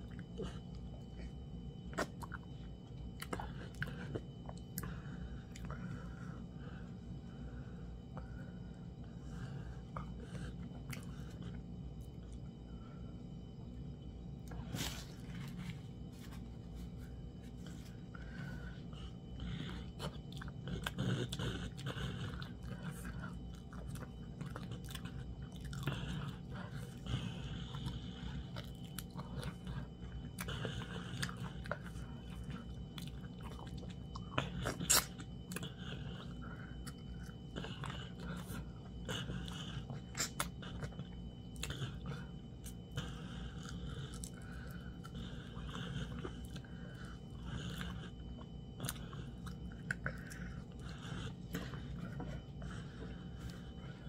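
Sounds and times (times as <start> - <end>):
person chewing wetly: 0.0 - 7.2, 8.1 - 12.6, 13.4 - 54.0
low hum: 0.0 - 54.0.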